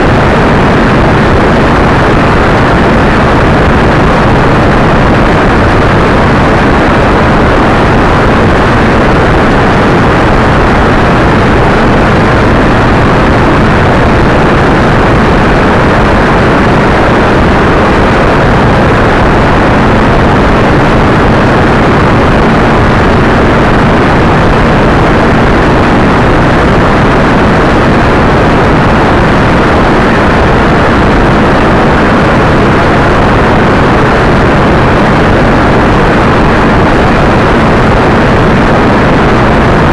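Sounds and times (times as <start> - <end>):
heavy wind rush: 0.0 - 39.9
low engine hum: 0.0 - 39.9
road noise: 0.0 - 39.9.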